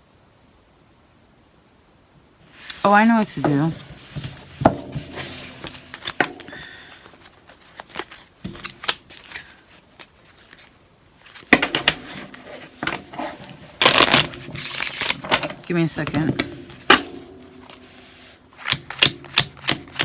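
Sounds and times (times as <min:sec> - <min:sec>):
cards being shuffled: 0:02.6 - 0:20.0.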